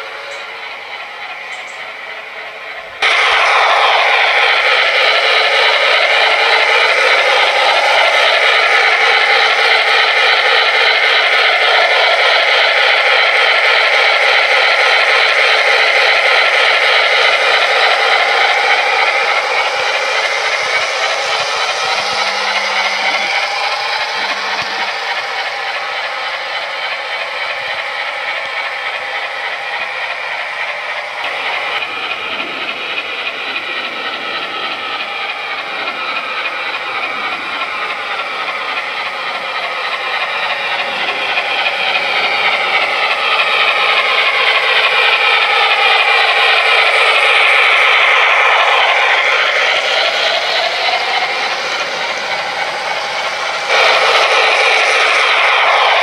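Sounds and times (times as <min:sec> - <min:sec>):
model train clattering on rails: 0:00.0 - 0:56.0.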